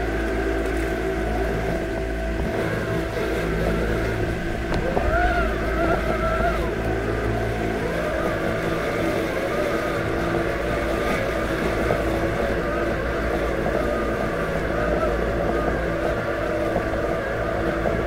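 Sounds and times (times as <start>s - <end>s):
lawn mower electric motors humming: 0.0s - 18.0s.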